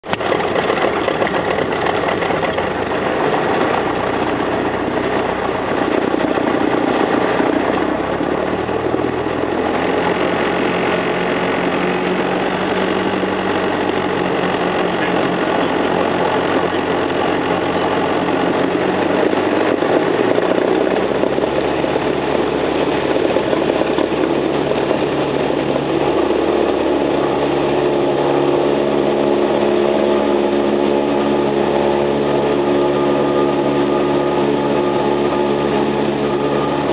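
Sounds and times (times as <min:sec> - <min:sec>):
propeller plane engine running: 0:00.0 - 0:36.9.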